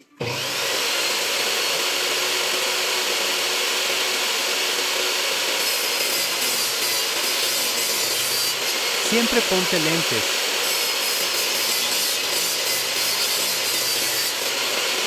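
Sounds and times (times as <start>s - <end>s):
power saw cutting wood: 0.2s - 15.0s.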